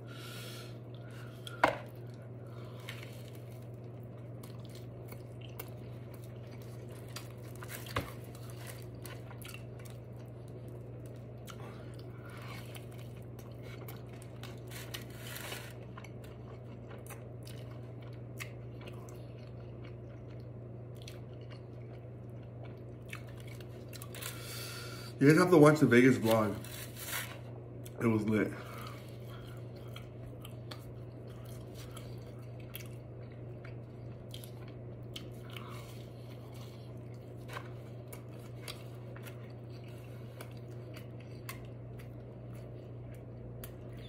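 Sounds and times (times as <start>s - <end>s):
steady low hum: 0.0s - 44.0s
chewing and mouth sounds: 0.8s - 24.5s, 28.7s - 44.0s.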